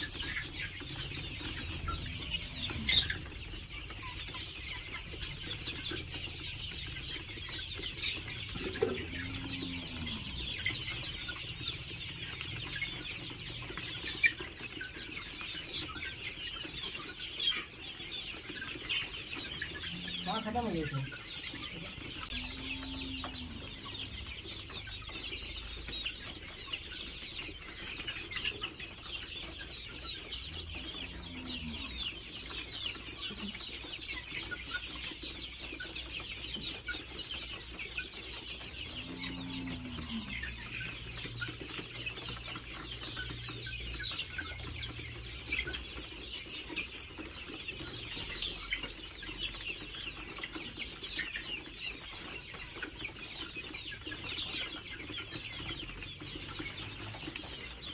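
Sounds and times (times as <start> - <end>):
chickens cheeping and clucking: 0.0 - 57.9.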